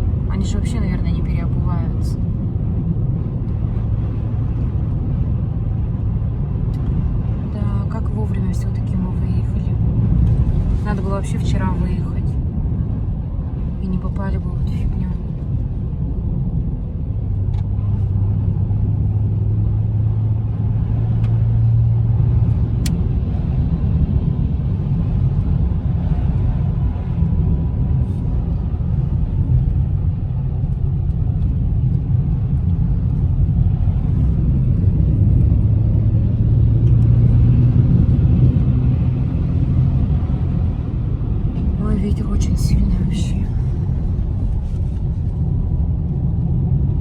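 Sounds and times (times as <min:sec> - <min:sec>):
car engine drone: 0:00.0 - 0:47.0
road rumble: 0:00.0 - 0:47.0.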